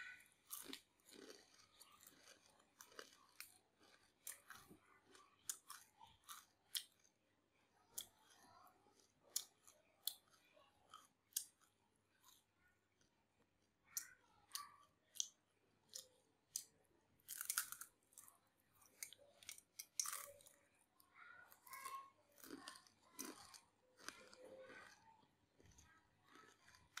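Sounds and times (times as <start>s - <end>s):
chewing crispy cracker: 0.0s - 27.0s.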